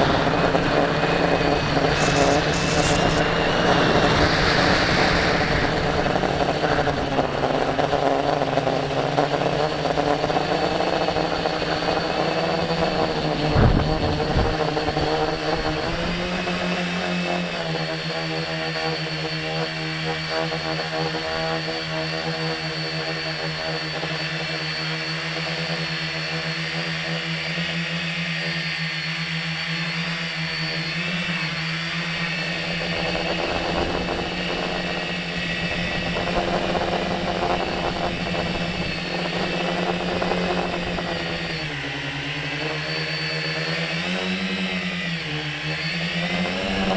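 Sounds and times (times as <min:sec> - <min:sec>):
drone propellers whining: 0:00.0 - 0:46.9.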